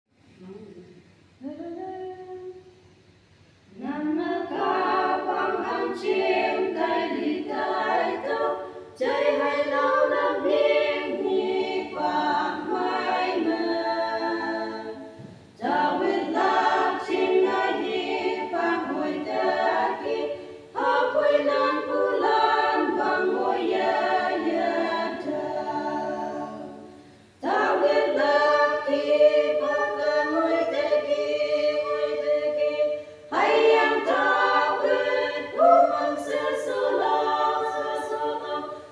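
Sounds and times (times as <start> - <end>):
women's choir singing a cappella: 3.7 - 38.9.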